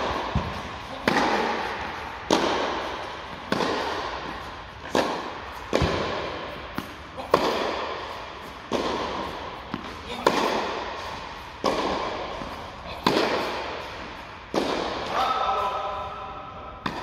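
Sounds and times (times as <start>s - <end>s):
tennis ball bouncing on court: 0.0s - 15.2s, 16.8s - 17.0s
tennis ball hit with rackets: 0.0s - 15.7s, 16.8s - 17.0s.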